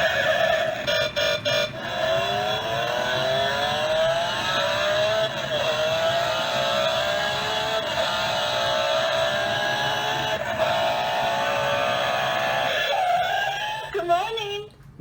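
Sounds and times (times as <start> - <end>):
recorded engine accelerating: 0.0 - 14.0.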